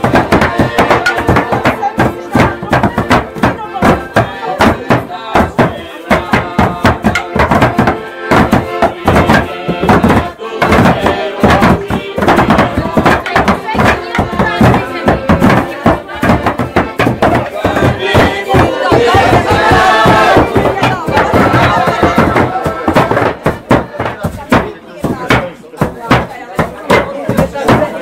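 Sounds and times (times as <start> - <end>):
music: 0.0 - 28.0
voices: 0.0 - 28.0.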